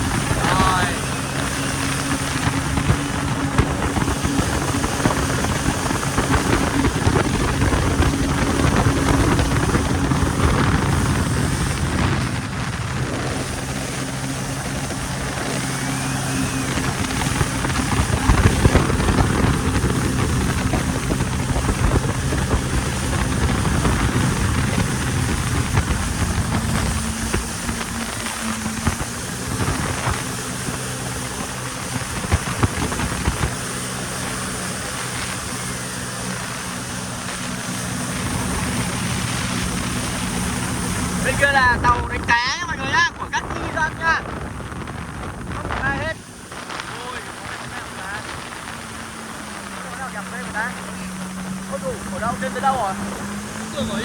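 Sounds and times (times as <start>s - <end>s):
jet ski engine drone: 0.0s - 54.0s
rush of wind and water spray: 0.0s - 54.0s.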